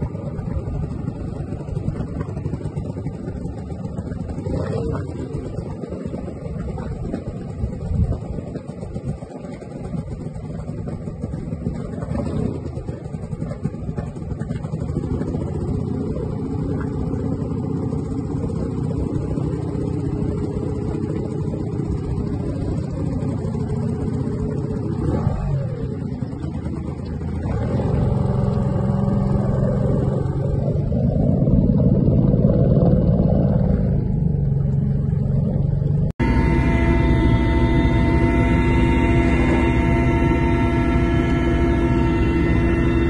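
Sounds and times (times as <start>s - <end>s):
engine humming: 0.0s - 43.0s.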